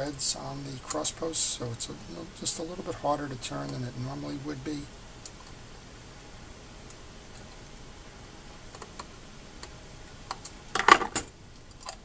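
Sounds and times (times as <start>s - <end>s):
low steady room hiss: 0.0s - 12.0s.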